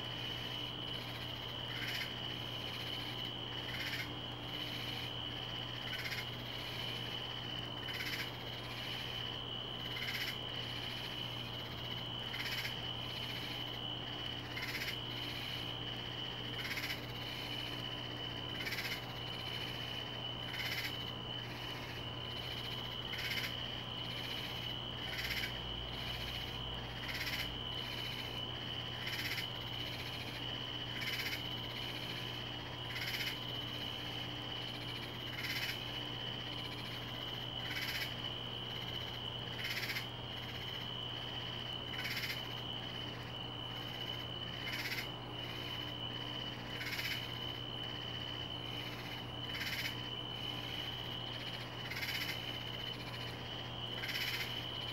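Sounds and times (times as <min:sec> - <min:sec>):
high-pitched insect trill: 0:00.0 - 0:54.9.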